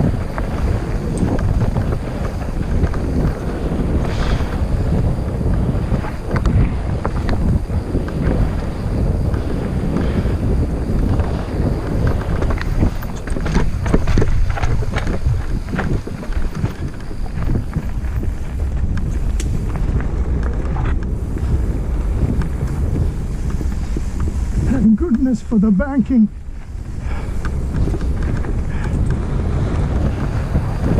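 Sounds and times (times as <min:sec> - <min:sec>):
bike clicks and knocks: 0:00.0 - 0:25.3, 0:26.5 - 0:30.9
wind buffeting microphone: 0:00.0 - 0:30.9.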